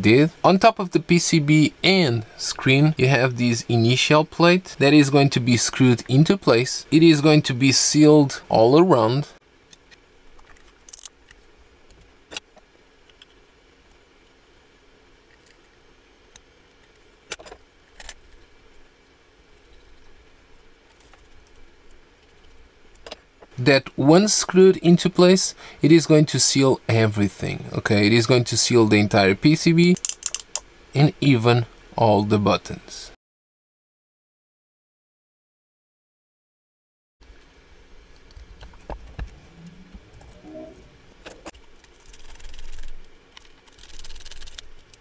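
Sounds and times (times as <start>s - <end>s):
low steady hum: 0.0s - 33.2s, 37.2s - 45.0s.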